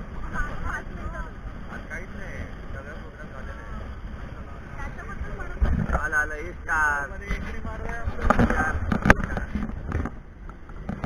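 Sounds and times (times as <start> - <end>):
voices: 0.0 - 9.7
vehicle rumble and wind: 0.0 - 11.0.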